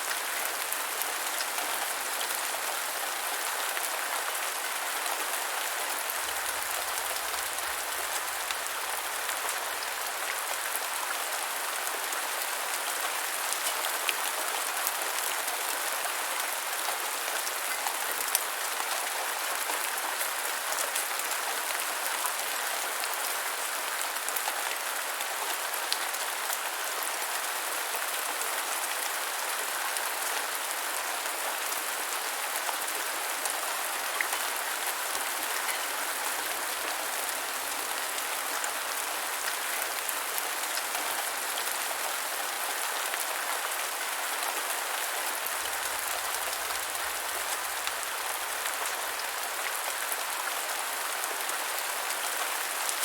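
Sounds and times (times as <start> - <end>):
rain on hard surface: 0.0 - 53.0.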